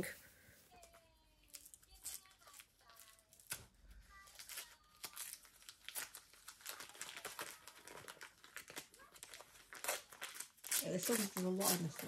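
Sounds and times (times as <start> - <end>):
wrapping paper crinkling and tearing: 0.7 - 12.0.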